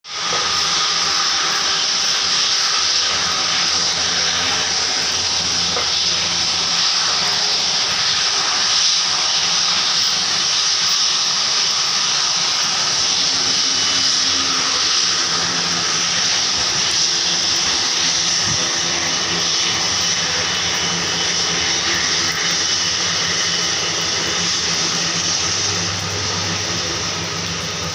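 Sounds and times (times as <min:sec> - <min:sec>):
jet engines roaring: 0:00.0 - 0:27.9.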